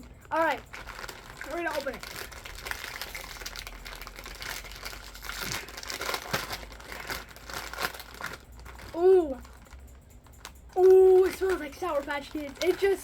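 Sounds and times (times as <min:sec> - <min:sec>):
wrapper crinkling: 0:00.0 - 0:13.0.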